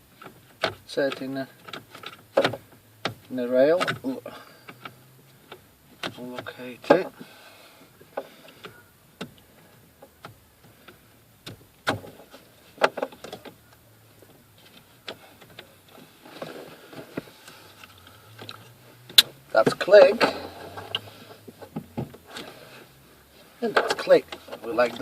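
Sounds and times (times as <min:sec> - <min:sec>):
rustling: 0:00.0 - 0:25.0.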